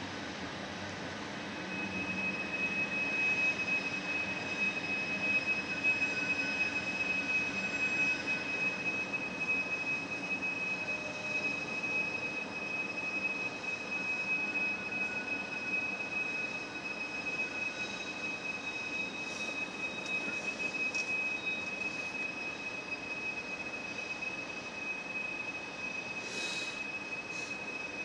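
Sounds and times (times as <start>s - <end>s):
rumble of train cars: 0.0s - 28.0s
train wheels squealing: 1.6s - 28.0s.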